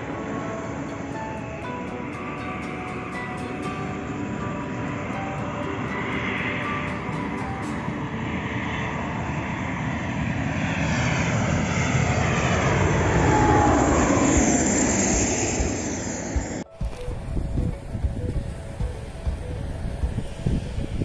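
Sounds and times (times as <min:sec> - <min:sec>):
jet airliner flying overhead: 0:00.0 - 0:21.0.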